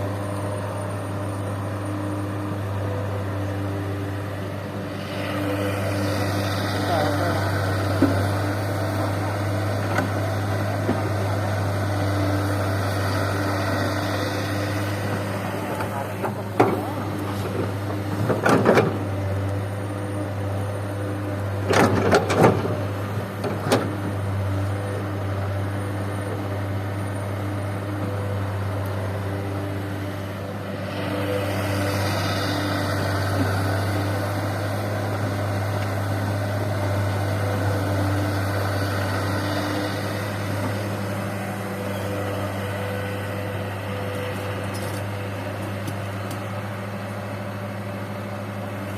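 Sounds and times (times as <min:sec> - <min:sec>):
diesel engines running: 0:00.0 - 0:48.9.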